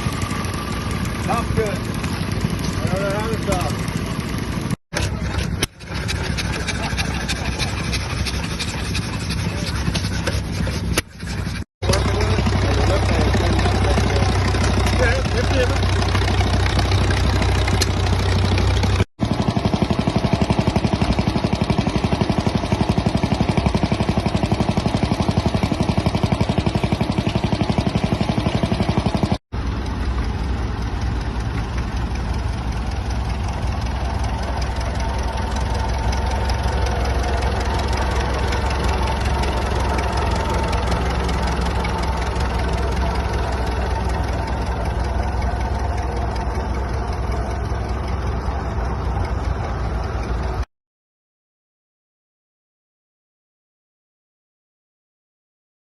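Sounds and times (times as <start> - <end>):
vintage engines running: 0.0 - 50.7.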